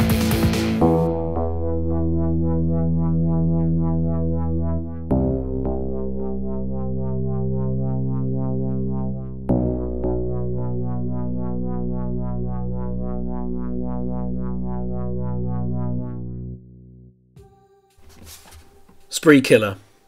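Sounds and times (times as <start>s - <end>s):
synthesizer chord: 0.5s - 18.0s
pulsing synthesizer pattern: 0.8s - 17.3s.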